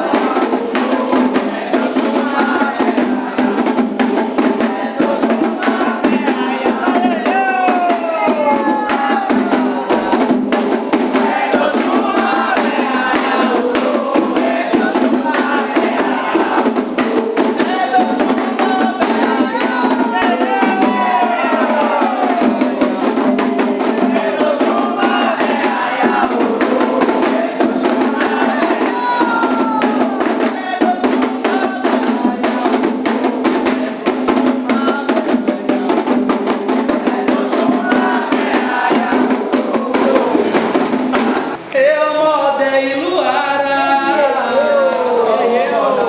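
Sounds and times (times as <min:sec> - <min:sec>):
hand drums drumming: 0:00.0 - 0:41.7
voices singing a chant: 0:00.0 - 0:46.0.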